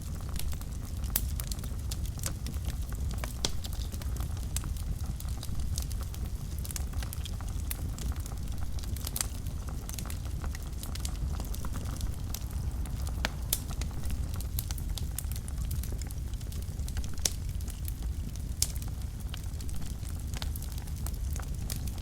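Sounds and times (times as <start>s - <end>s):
fire popping and crackling: 0.0s - 22.0s
wood fire burning: 0.0s - 22.0s.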